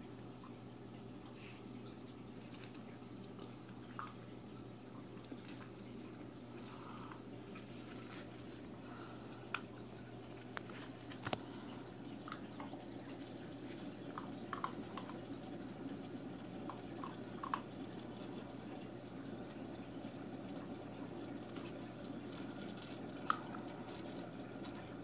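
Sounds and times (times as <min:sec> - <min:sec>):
aquarium filter water trickling: 0:00.0 - 0:25.0
small drip plinks: 0:00.4 - 0:07.7, 0:09.3 - 0:25.0.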